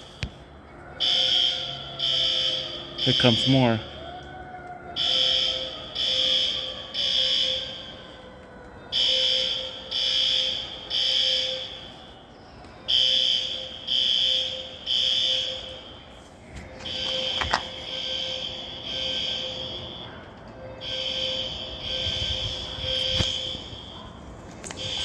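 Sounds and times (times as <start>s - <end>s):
siren winding down: 0.6s - 25.0s
fire alarm horn beeps: 1.0s - 4.1s, 4.9s - 12.3s, 12.9s - 25.0s.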